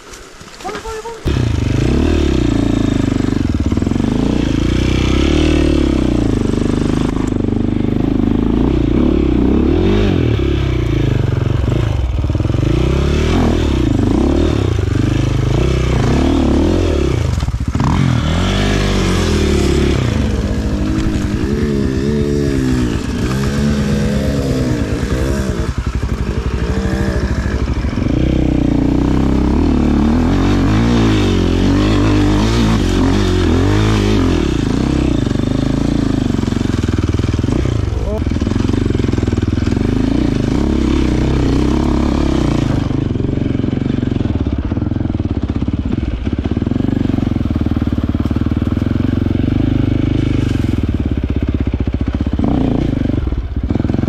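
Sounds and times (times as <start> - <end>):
dirt bike engine revving: 0.7 - 54.0.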